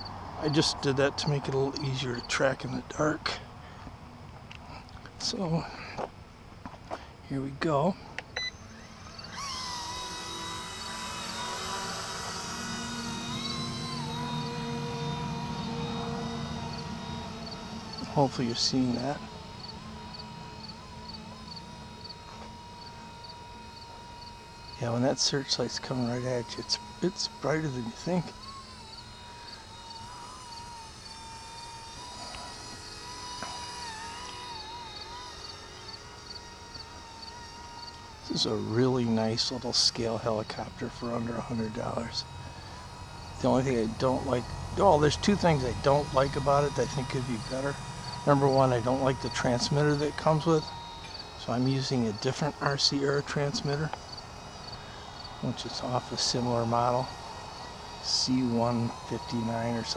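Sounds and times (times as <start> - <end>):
rc helicopter motor whine: 0.0 - 59.9
rotor low hum: 0.0 - 59.9.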